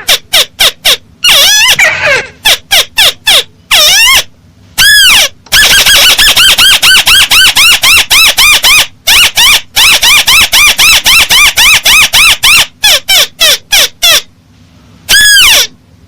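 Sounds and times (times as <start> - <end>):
crake calling: 0.0 - 14.3, 15.1 - 15.8.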